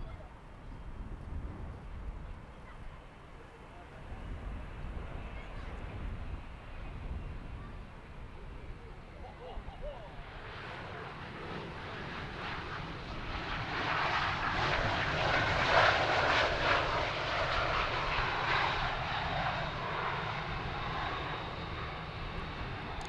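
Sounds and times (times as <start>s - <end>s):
jet airliner passing by: 3.8s - 23.0s.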